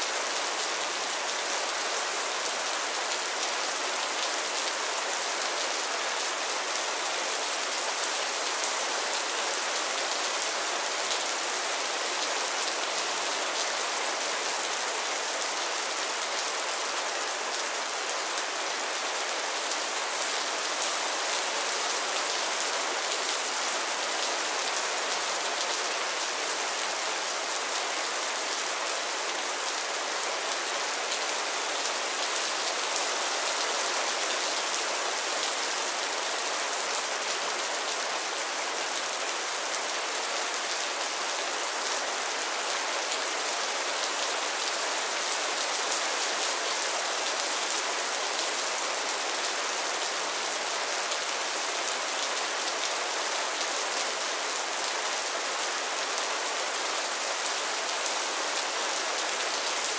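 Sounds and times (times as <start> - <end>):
rain on a roof: 0.0 - 59.9.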